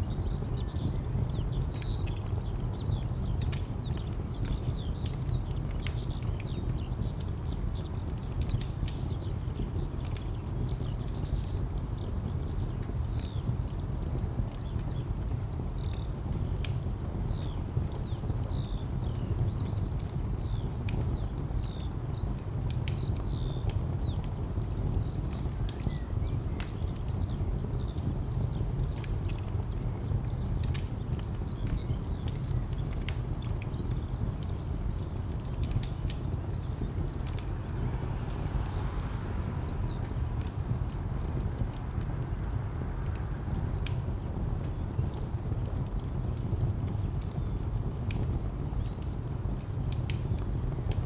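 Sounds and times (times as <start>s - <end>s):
birds chirping: 0.0s - 48.6s
wood fire crackling: 0.0s - 51.0s
distant traffic rumble: 0.2s - 51.0s.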